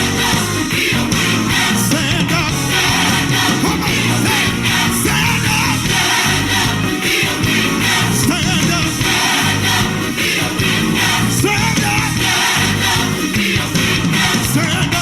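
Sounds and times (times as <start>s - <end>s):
drums keeping a steady beat: 0.0s - 15.0s
voices singing: 0.0s - 15.0s.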